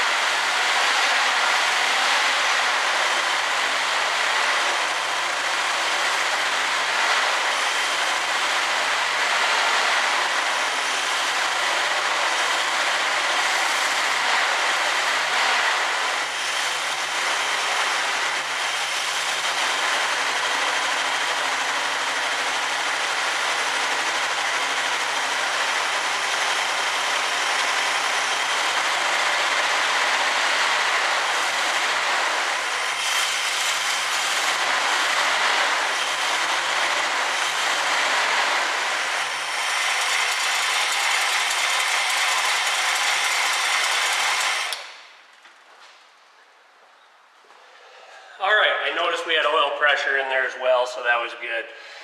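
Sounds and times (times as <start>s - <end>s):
car engine running: 0.0s - 45.1s.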